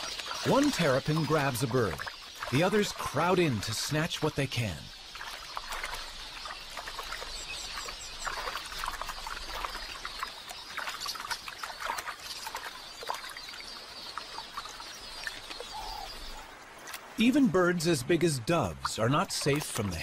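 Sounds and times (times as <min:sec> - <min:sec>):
flock of birds chirping: 0:00.0 - 0:20.0
water splashing: 0:00.0 - 0:20.0.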